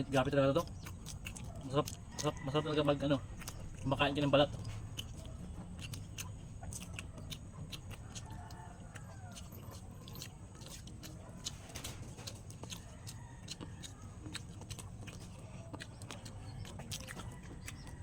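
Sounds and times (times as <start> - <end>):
chicken clucking: 0.0 - 18.0
wet chewing smacks: 0.0 - 18.0.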